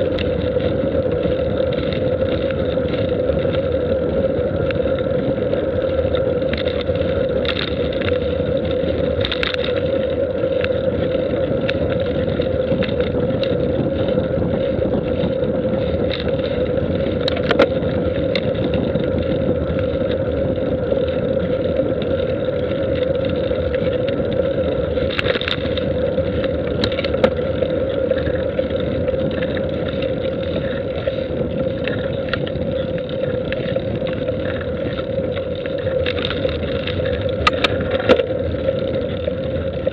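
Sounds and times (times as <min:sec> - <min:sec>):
constant hum: 0:00.0 - 0:39.9
road rumble: 0:00.0 - 0:39.9
wind: 0:00.0 - 0:39.9
small ticks and knocks: 0:06.1 - 0:20.2, 0:21.0 - 0:39.9.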